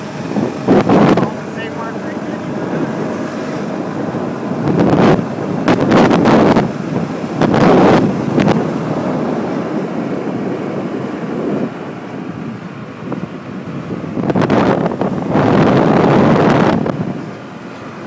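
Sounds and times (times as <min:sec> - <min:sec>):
golf cart running and rolling: 0:00.0 - 0:18.0
wind buffeting microphone: 0:00.0 - 0:18.0.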